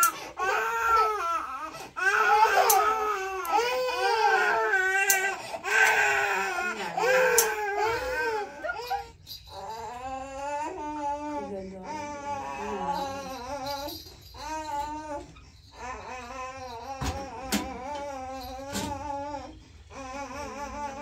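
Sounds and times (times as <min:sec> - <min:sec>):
baby crying: 0:00.0 - 0:21.0.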